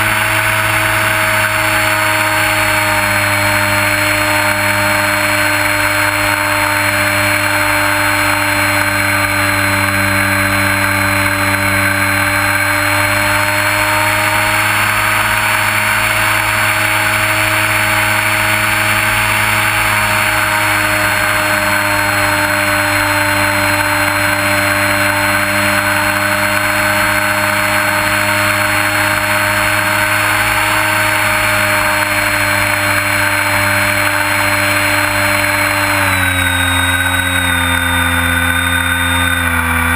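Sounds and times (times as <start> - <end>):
model airplane motor and propeller: 0.0 - 39.9.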